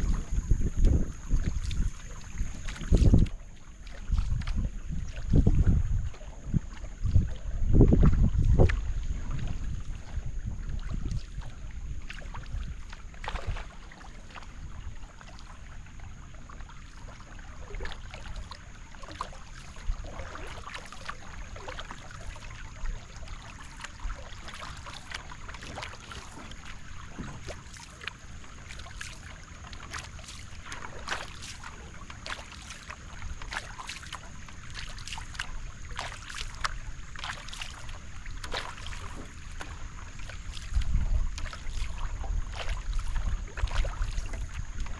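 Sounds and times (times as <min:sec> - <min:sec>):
paddle splashing and dripping: 0:00.0 - 0:44.9
water wash of canoe hull: 0:00.0 - 0:44.9.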